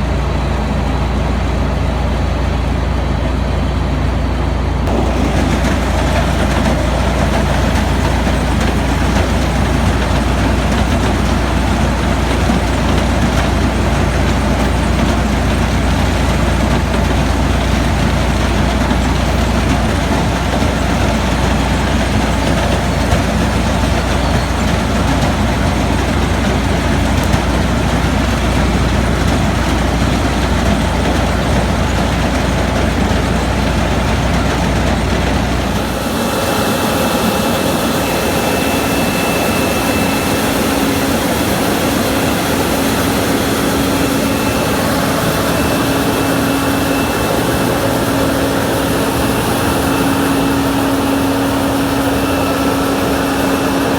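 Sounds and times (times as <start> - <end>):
deep engine hum: 0.0 - 53.9
mechanical rumble: 0.0 - 53.9.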